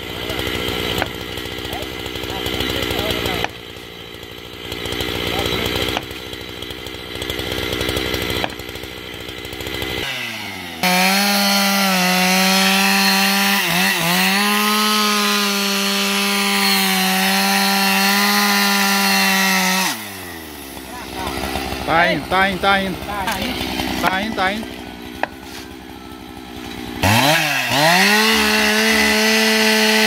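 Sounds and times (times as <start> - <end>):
chainsaw cutting tree trunk: 0.0 - 30.0.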